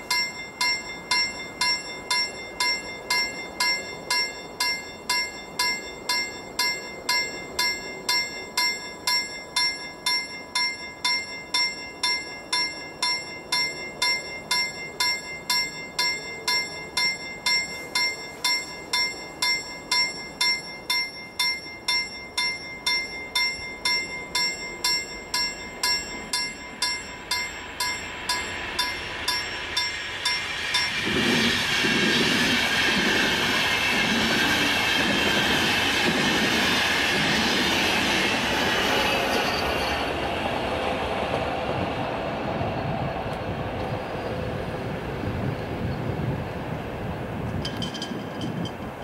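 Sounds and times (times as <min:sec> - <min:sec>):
level-crossing warning bell: 0:00.0 - 0:40.6, 0:47.4 - 0:49.0
train wheels rumbling and clattering: 0:00.0 - 0:49.0.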